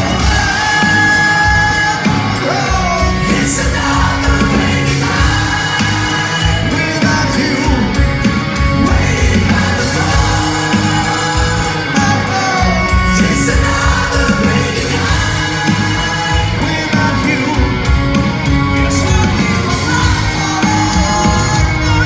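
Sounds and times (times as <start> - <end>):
man singing: 0.0 - 18.2, 18.8 - 22.0
live rock band playing: 0.0 - 22.0.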